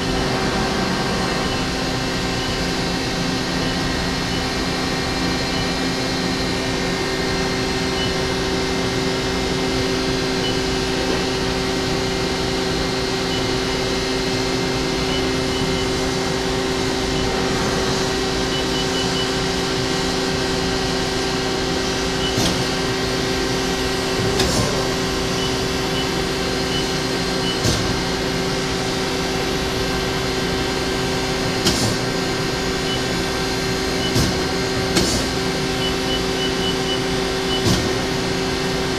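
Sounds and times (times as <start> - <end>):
machine hum with held tones: 0.0 - 38.9.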